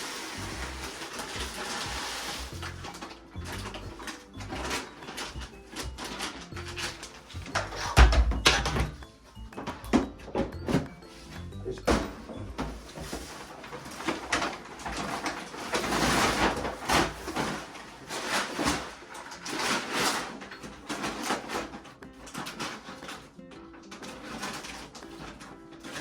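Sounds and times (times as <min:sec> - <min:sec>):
cat litter scraping and rustling: 0:00.0 - 0:09.8, 0:10.6 - 0:26.0.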